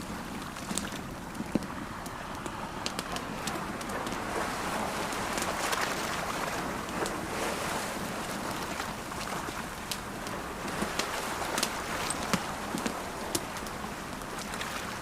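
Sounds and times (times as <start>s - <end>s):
campfire crackling: 0.0s - 15.0s
ocean waves washing on shore: 0.0s - 15.0s.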